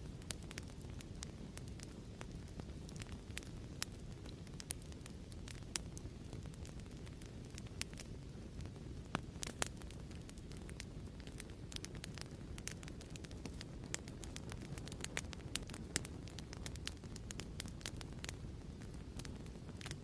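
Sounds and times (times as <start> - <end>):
fireplace crackling: 0.0 - 20.0.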